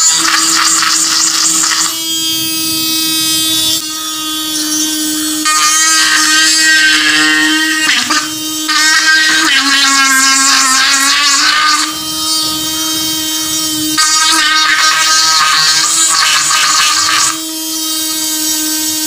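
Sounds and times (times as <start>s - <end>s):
small motor drill whining: 0.0s - 19.0s.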